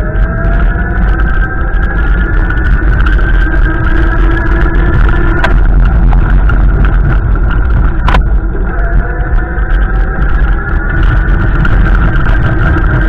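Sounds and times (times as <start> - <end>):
steady whine: 0.0 - 13.0
storm wind buffeting microphone: 0.0 - 13.0.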